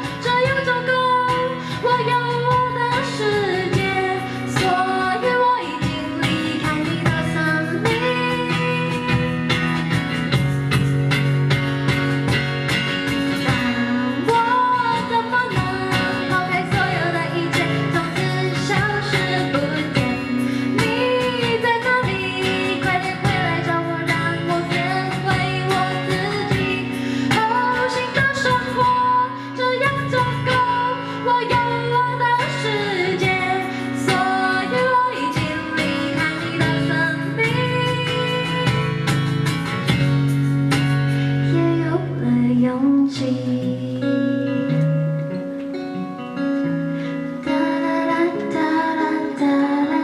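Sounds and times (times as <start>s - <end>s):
woman singing: 0.0s - 45.2s, 45.9s - 50.0s
guitar accompaniment: 0.0s - 50.0s.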